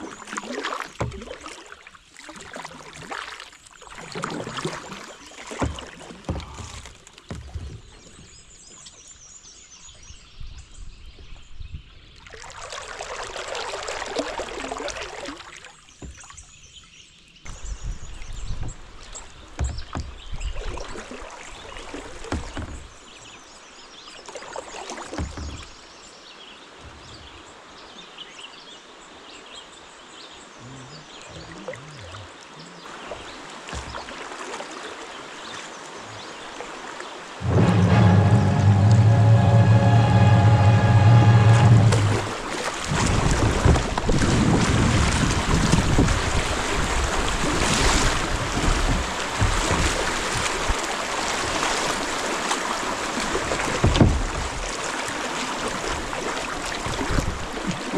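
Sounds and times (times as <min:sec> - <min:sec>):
rush of water: 0:00.0 - 0:09.1, 0:12.1 - 0:16.8, 0:17.4 - 0:57.9
kayak paddle strokes splashing: 0:00.0 - 0:09.3, 0:12.2 - 0:16.8, 0:17.4 - 0:26.0, 0:33.0 - 0:57.9.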